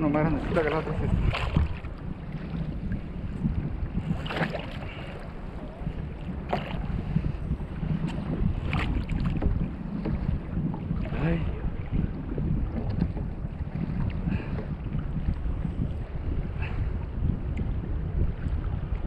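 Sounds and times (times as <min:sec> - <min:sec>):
water splashing against kayak hull: 0:00.0 - 0:19.0
wind buffeting microphone: 0:00.0 - 0:19.0.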